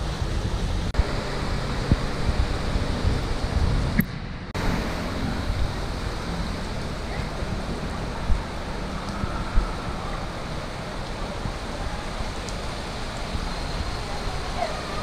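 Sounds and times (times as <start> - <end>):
rain and floodwater rushing: 0.0 - 15.0
wind buffeting microphone: 0.0 - 15.0.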